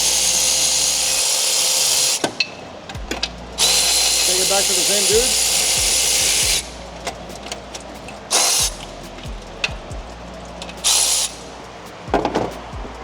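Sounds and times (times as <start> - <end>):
music with deep bass beat: 0.0 - 13.0
short hissing bursts: 0.0 - 13.0.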